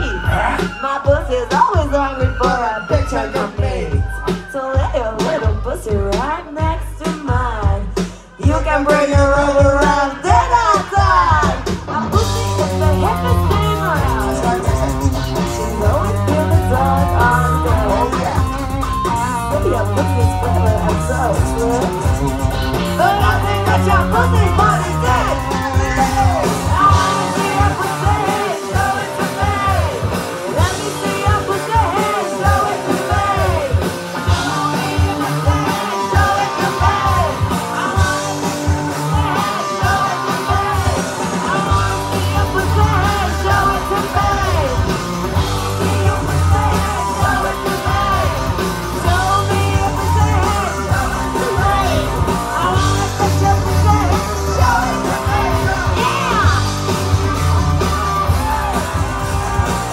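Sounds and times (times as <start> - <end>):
heavy bass: 0.0 - 59.9
live rock band with singing: 0.0 - 59.9.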